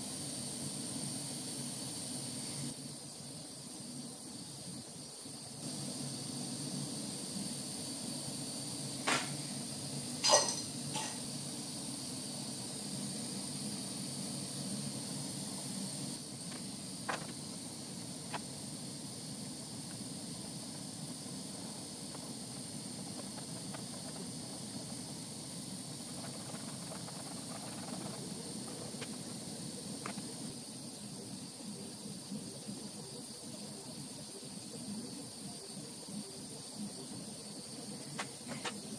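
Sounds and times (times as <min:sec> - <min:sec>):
torch flame hissing: 0:00.0 - 0:38.9.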